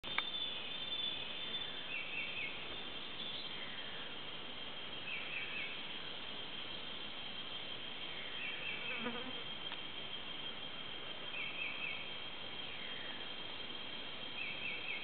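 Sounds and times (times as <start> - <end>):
high insect drone: 0.1 - 15.0.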